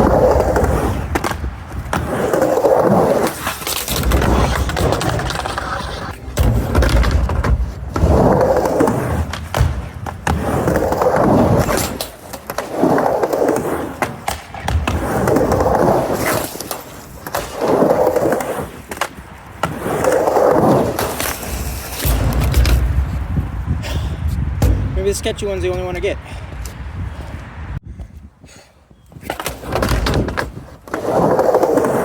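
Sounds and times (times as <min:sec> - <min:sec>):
skateboard clicks and knocks: 0:00.0 - 0:23.4, 0:29.1 - 0:32.0
skateboard wheels rushing on ramp: 0:00.0 - 0:25.2, 0:29.1 - 0:32.0.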